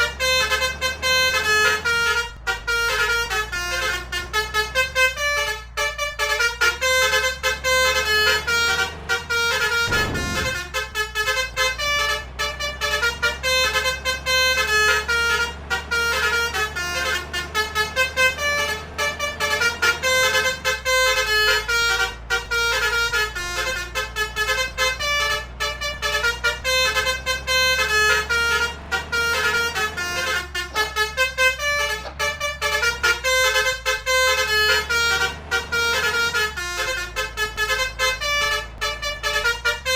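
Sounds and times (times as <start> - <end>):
multi-tone musical horn playing tune: 0.0 - 39.9
vehicle engine droning: 0.0 - 39.9.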